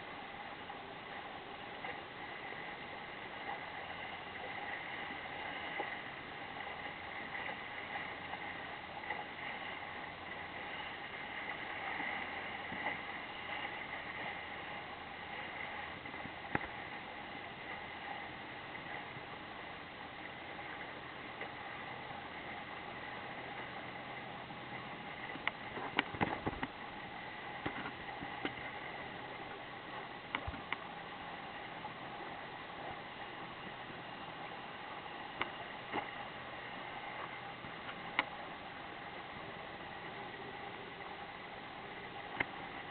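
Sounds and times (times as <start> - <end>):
water rushing along a hull: 0.0 - 42.9.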